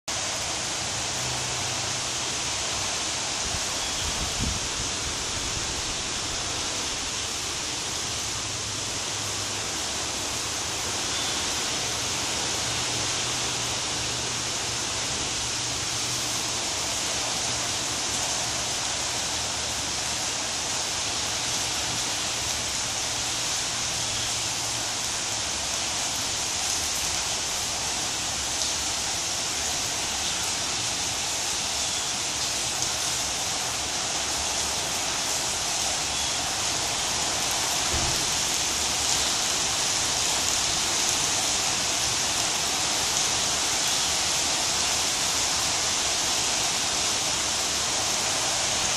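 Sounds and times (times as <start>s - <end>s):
steady hiss: 0.1s - 48.9s.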